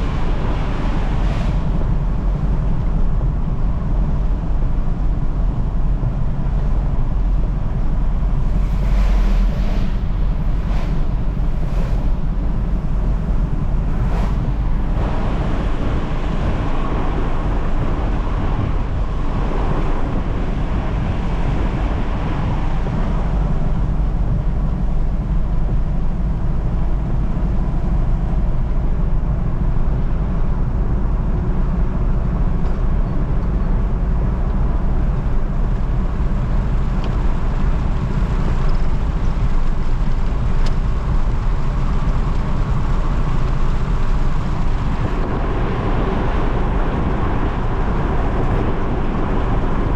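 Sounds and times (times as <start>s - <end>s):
vehicle engine and tyres rumbling: 0.0s - 49.9s.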